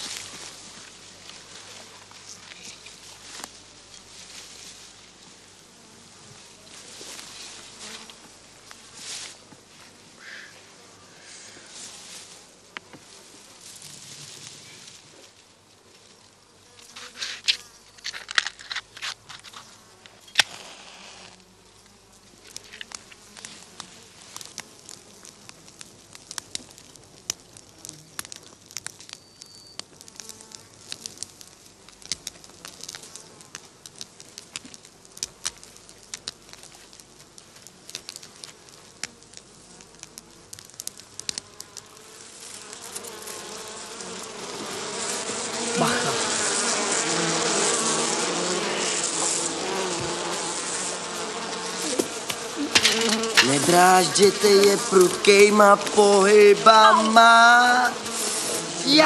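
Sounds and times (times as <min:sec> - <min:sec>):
dry straw rustling: 0:00.0 - 0:16.4, 0:20.4 - 0:43.5, 0:50.2 - 0:59.0
insects buzzing: 0:00.0 - 0:59.0.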